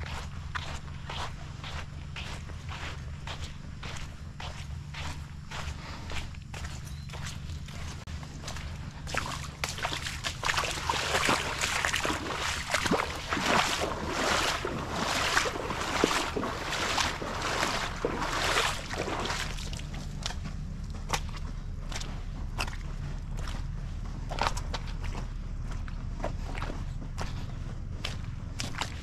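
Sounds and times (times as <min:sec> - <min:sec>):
footsteps wading through water: 0:00.0 - 0:29.0.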